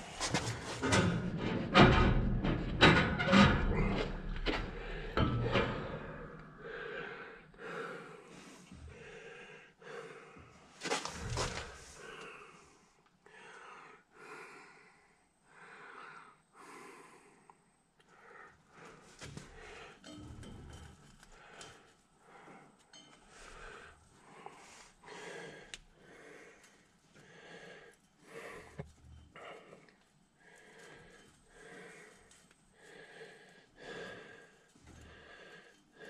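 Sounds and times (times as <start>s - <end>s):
man breathing rhythmically: 0.0s - 36.0s.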